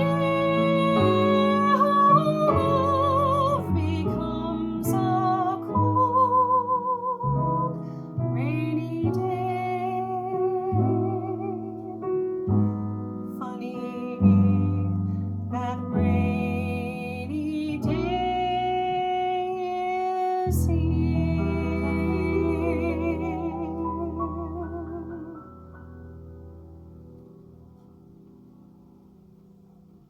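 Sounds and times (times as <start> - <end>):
woman singing a slow ballad: 0.0 - 12.1, 13.3 - 25.6
piano accompaniment: 0.0 - 30.0.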